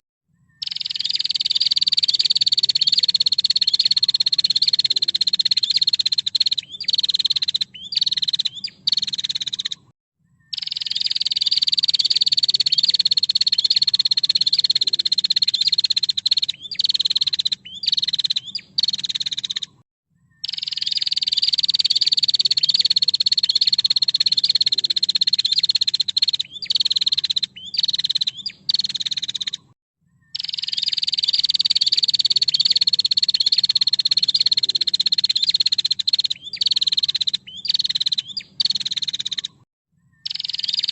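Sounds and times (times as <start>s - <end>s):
bird's high rattling trill: 0.6s - 9.8s, 10.5s - 19.8s, 20.4s - 29.7s, 30.3s - 39.6s, 40.2s - 40.9s.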